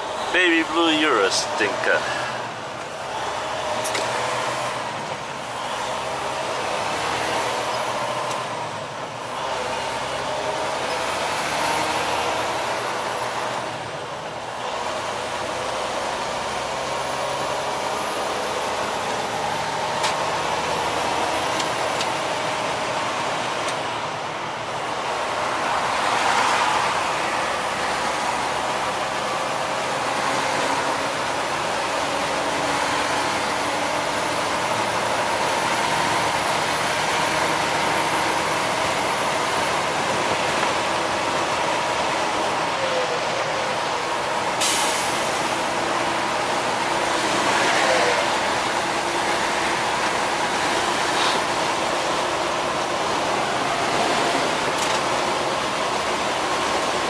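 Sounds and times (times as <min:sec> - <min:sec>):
truck road noise: 0:00.0 - 0:57.0.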